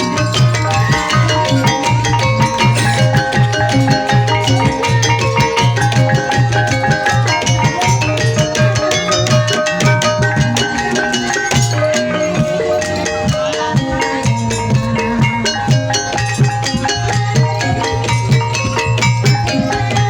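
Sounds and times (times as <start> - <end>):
fast drumming: 0.0 - 20.0
tuned percussion notes: 0.0 - 20.0.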